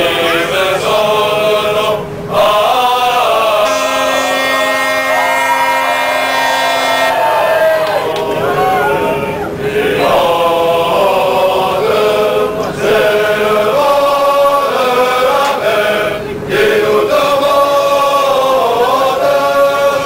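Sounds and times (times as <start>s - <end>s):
group singing in chorus: 0.0s - 20.0s.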